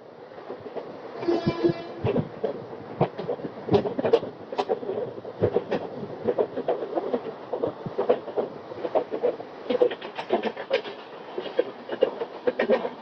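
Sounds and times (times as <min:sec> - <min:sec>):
train wheels clattering over rail joints: 0:00.4 - 0:13.0.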